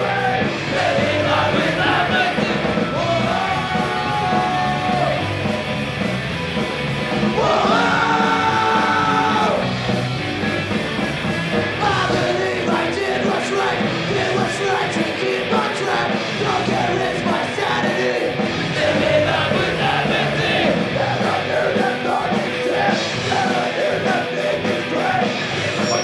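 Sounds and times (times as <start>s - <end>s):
person singing: 0.0s - 5.3s, 7.3s - 9.7s, 11.8s - 26.0s
punk rock band playing: 0.0s - 26.0s.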